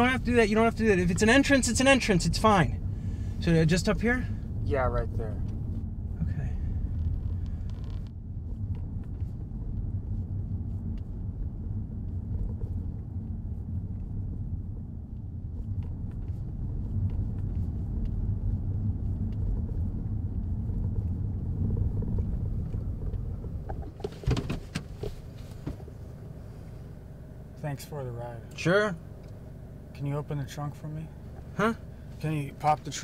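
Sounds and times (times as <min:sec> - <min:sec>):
car engine rumble from inside: 0:00.0 - 0:33.0.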